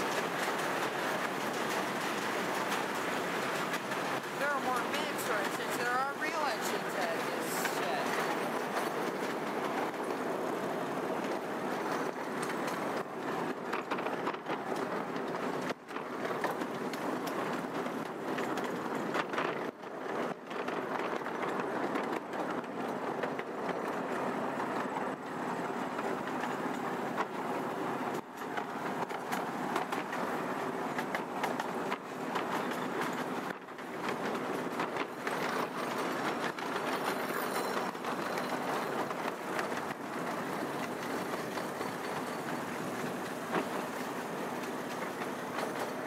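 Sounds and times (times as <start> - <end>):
train cars rumbling on rails: 0.0 - 46.0
wheels clicking: 0.0 - 46.0.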